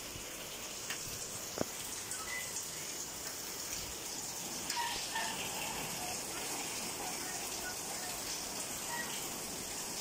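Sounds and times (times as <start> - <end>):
steady rainfall hiss: 0.0 - 10.0.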